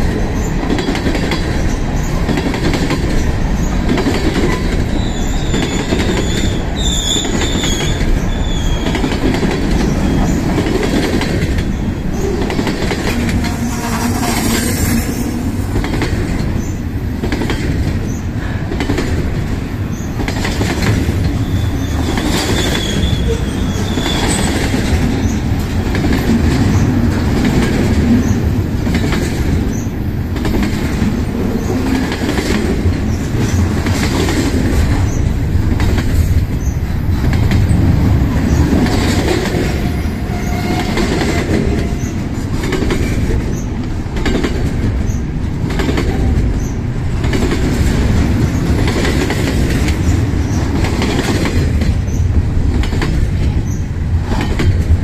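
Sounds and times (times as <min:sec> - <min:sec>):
steel wheels clattering over rail joints: 0:00.0 - 0:55.0.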